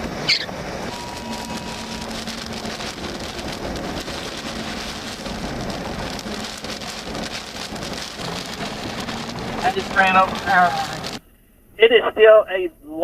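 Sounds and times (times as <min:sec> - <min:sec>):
rain on a vehicle: 0:00.0 - 0:11.2.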